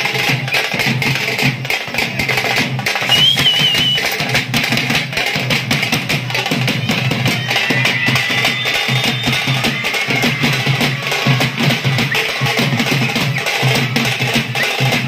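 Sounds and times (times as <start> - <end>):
drummers beating fast rhythm: 0.0 - 15.0.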